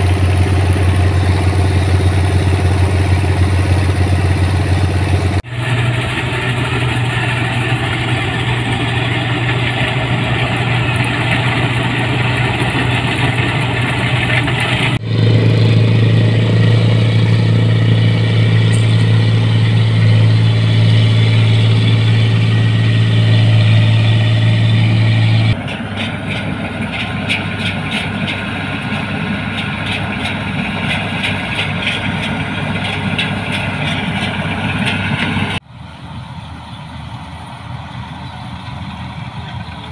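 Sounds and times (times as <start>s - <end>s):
diesel engine drone: 0.0s - 39.9s
whir of threshing machinery: 0.0s - 39.9s.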